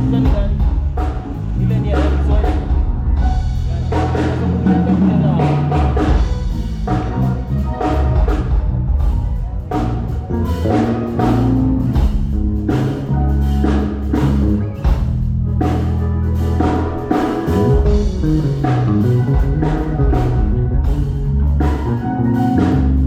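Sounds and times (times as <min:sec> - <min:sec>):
drum kit hits: 0:00.0 - 0:23.0
electric bass low notes: 0:00.0 - 0:23.0.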